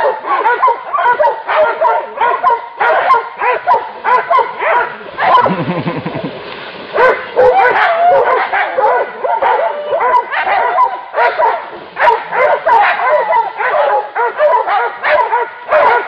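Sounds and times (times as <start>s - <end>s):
dogs barking and yelping: 0.0s - 5.9s, 6.9s - 16.0s.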